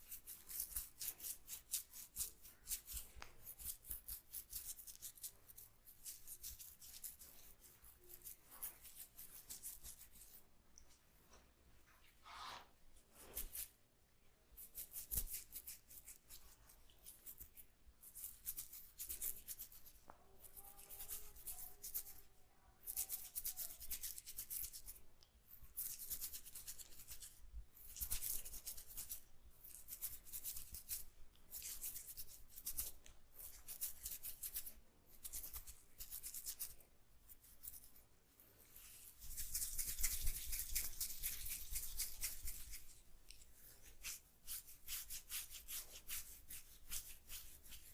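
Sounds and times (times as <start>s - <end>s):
hands rubbing oiled hair: 0.0s - 13.8s, 14.6s - 25.0s, 25.6s - 38.0s, 38.6s - 47.9s.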